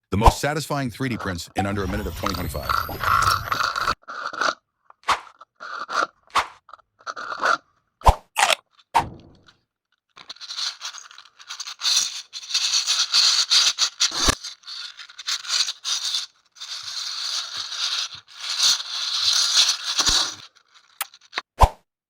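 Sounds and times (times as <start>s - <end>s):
plastic parts rattling and scraping: 1.2s - 7.7s, 8.4s - 21.5s.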